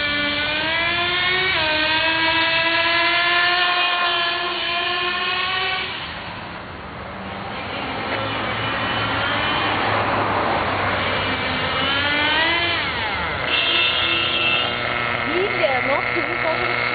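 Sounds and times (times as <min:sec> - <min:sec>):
toy truck motor whining: 0:00.0 - 0:06.6, 0:07.5 - 0:16.9.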